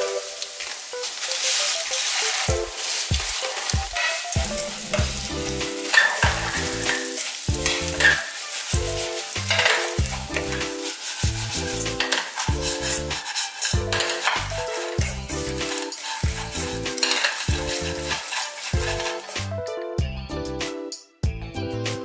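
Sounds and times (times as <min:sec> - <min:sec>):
fish sizzling in hot oil: 0:00.0 - 0:19.6.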